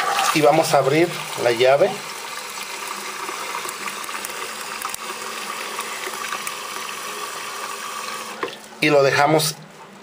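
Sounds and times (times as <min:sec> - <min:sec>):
tap water pouring into funnel: 0:00.0 - 0:08.8.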